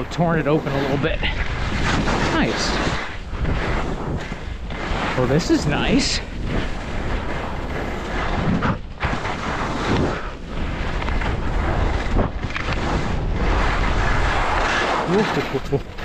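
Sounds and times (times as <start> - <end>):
skis running over snow: 0.0 - 16.0
wind rushing across microphone: 0.0 - 16.0.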